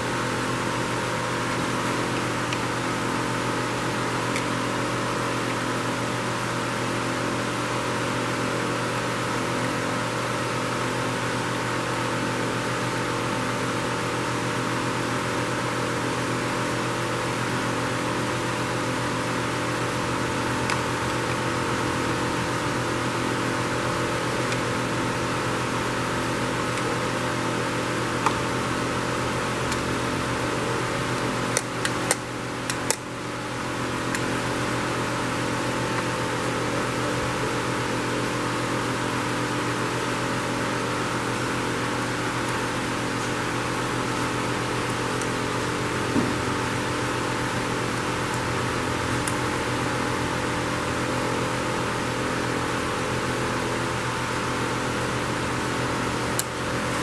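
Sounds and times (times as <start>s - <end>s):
electric fan whooshing: 0.0s - 57.0s.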